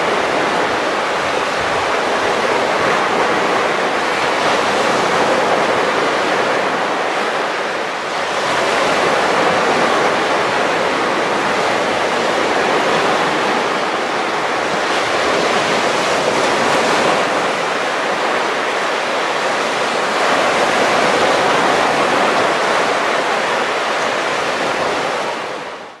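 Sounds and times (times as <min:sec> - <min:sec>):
surf breaking on sandy beach: 0:00.0 - 0:26.0.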